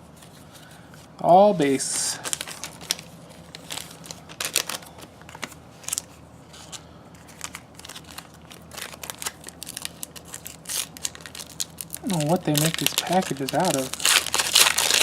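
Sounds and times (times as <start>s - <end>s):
foil wrapper crinkling: 2.0s - 15.0s.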